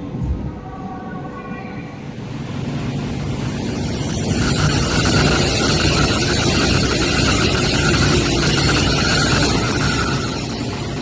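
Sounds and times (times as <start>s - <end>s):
steady high whine: 0.0s - 11.0s
train rushing past: 1.9s - 11.0s.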